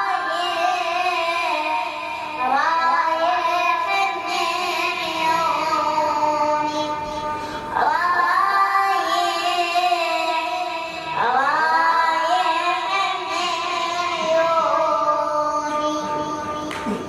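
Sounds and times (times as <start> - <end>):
boy chanting melismatic notes: 0.0 - 17.0.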